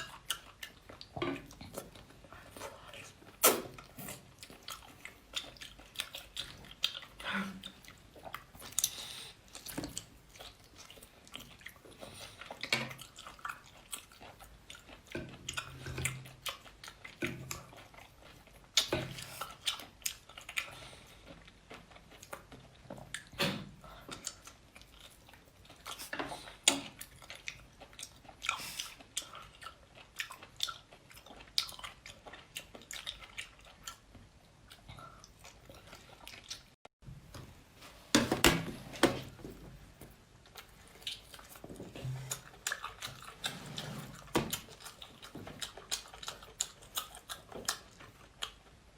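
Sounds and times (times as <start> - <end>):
person chewing food: 0.0 - 37.6, 38.8 - 48.9.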